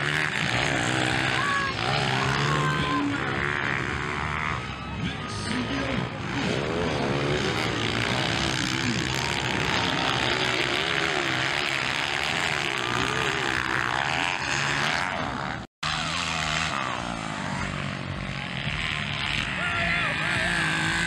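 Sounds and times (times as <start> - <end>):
motocross engines revving: 0.0 - 21.0.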